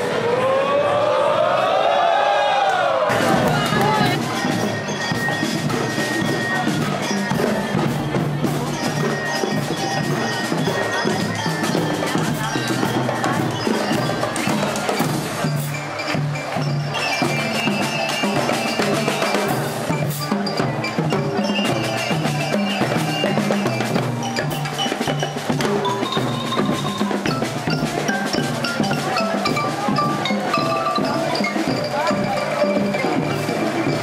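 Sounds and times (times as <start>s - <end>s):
marching band playing: 3.1s - 34.0s
snare and bass drums: 3.1s - 34.0s
bell lyre melody: 3.3s - 34.0s.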